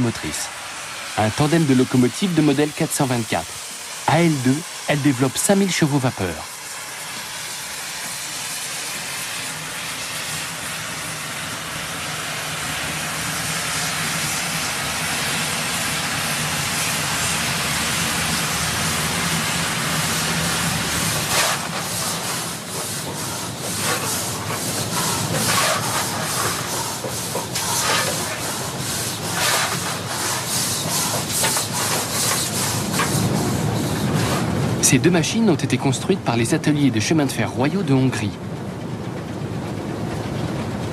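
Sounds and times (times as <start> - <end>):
steam hissing: 0.0 - 38.2.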